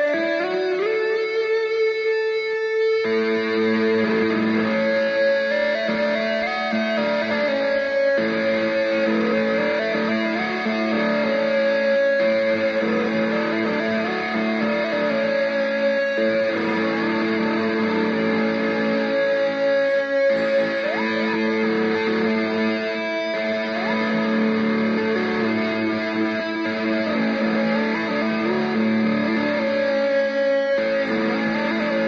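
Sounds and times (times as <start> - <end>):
electric guitar bagpipe drone: 0.0 - 32.0
slow guitar melody: 0.0 - 32.0.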